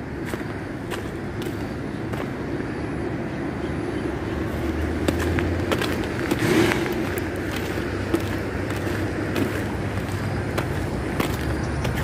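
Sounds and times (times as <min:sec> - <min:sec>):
footsteps on gravel: 0:00.0 - 0:02.7, 0:04.2 - 0:12.0
road traffic rumble: 0:00.0 - 0:12.0
vehicle passing: 0:00.0 - 0:12.0.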